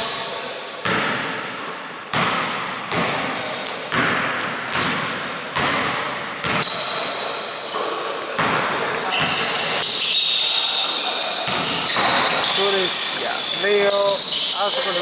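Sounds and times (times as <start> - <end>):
sneaker squeaks: 0.0 - 5.0, 6.4 - 15.0.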